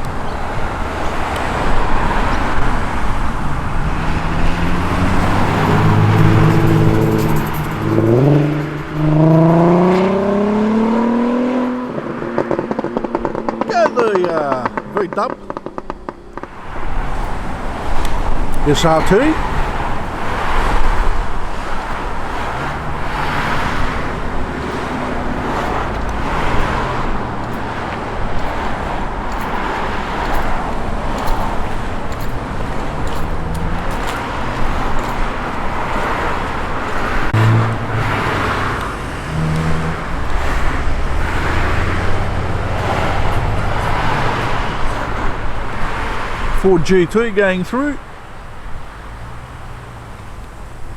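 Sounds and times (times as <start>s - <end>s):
cars driving slowly past: 0.0s - 50.9s
traffic noise: 0.0s - 50.9s.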